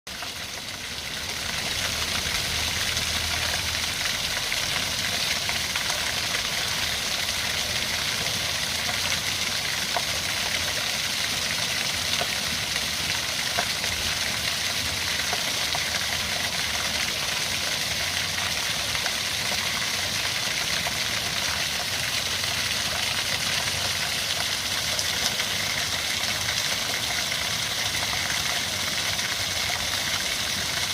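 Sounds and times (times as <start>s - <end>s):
stream rushing over rocks: 0.1s - 30.9s.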